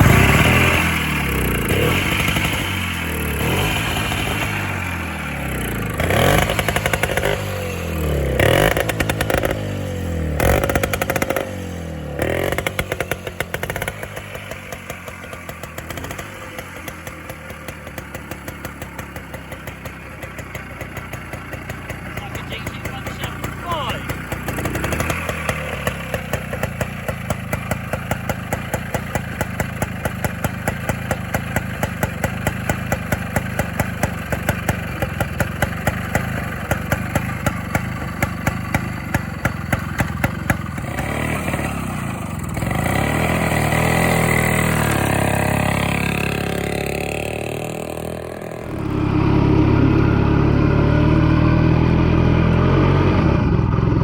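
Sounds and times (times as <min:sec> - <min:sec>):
two-stroke motorcycle engine popping: 0:00.0 - 0:49.3.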